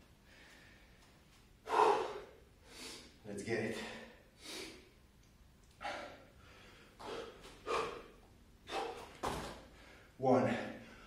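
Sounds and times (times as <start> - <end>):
man breathing hard: 0.2 - 5.0, 5.7 - 11.0.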